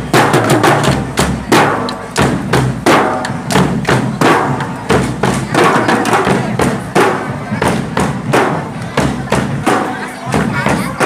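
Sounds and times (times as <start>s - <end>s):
bass drum beating: 0.0s - 11.0s.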